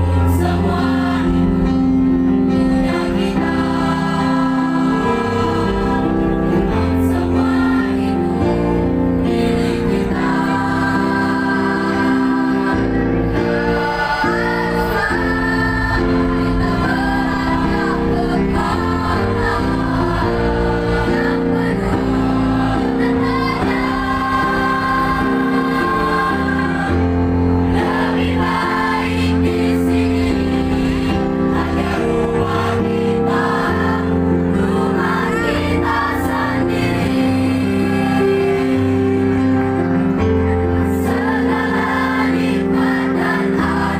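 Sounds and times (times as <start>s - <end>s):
choir singing in parts: 0.0s - 43.9s.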